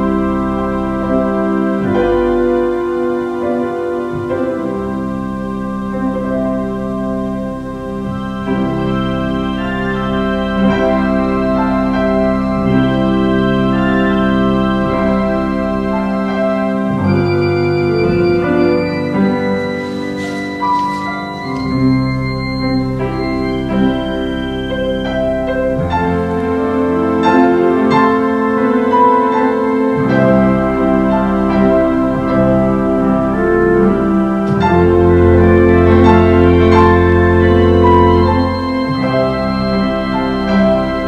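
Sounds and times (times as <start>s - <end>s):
organ playing held chords: 0.0s - 41.0s.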